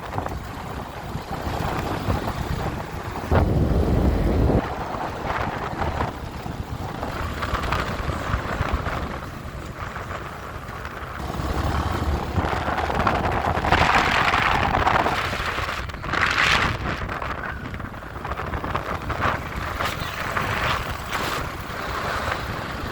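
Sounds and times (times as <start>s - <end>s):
motorcycle engine and road rumble: 0.0s - 22.9s
wind buffeting microphone: 0.0s - 22.9s.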